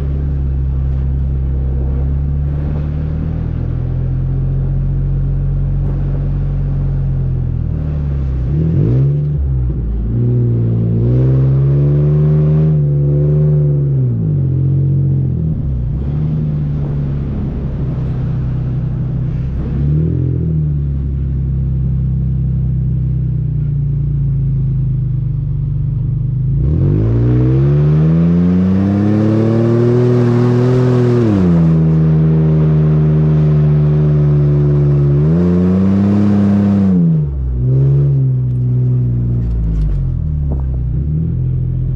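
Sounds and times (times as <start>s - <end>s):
engine revving in sand: 0.0s - 25.2s, 26.2s - 41.9s.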